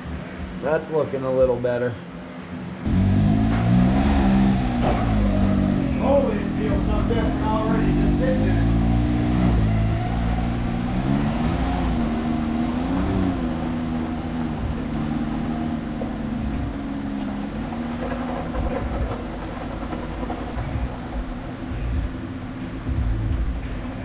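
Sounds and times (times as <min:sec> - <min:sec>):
vehicle engine running: 0:02.0 - 0:24.0.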